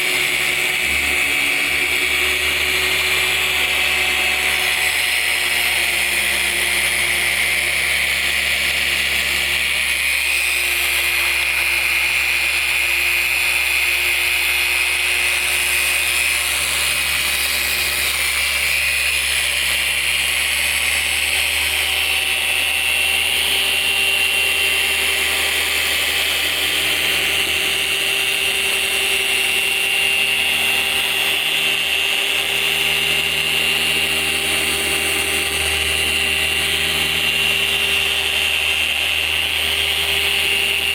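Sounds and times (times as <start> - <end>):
electric car polisher whining: 0.0 - 40.9.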